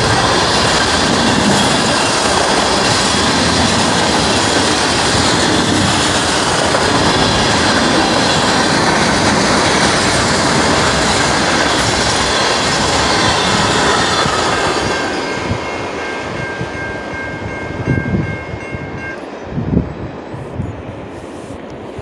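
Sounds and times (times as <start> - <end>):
steady high tones: 0.0 - 19.5
freight train rumbling and rattling: 0.0 - 22.0.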